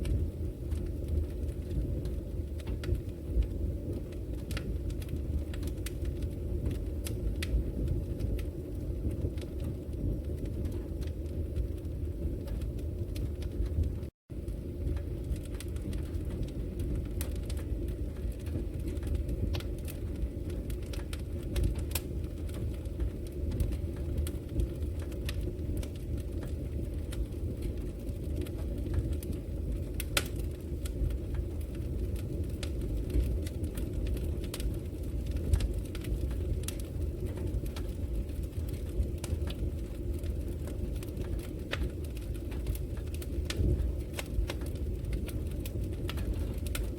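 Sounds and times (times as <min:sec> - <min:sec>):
fire crackling and popping: 0:00.0 - 0:46.9
low rumble of flames: 0:00.0 - 0:46.9.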